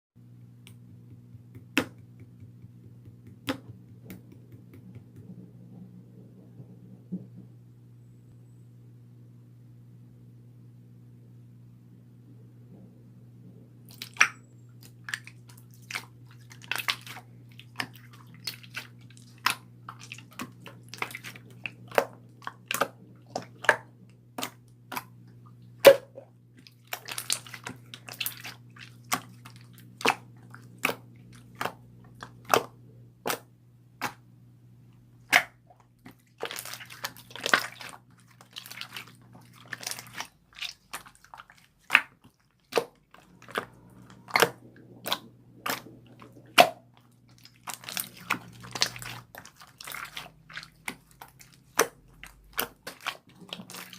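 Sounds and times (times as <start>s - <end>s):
low steady hum: 0.2s - 53.9s.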